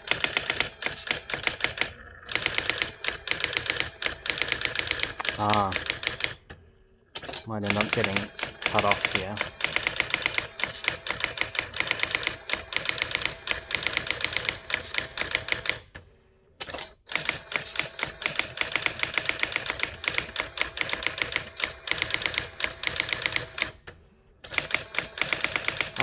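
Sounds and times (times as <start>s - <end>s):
electronic typewriter printing: 0.0s - 6.6s, 7.2s - 16.0s, 16.6s - 26.0s.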